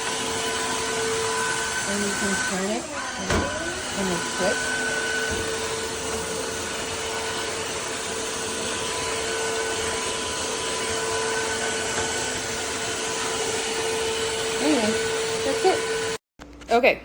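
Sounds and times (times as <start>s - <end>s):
floor cleaner motor whining: 0.0s - 16.2s.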